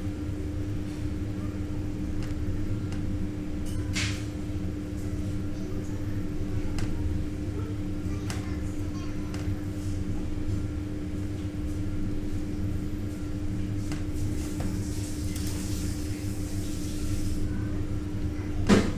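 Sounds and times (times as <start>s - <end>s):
low mechanical hum: 0.0s - 18.9s.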